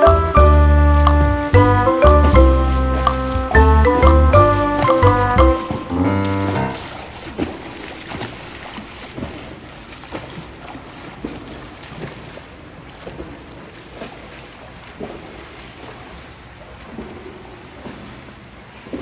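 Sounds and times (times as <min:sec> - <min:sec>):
swimmer splashing in pool: 0:00.4 - 0:19.0.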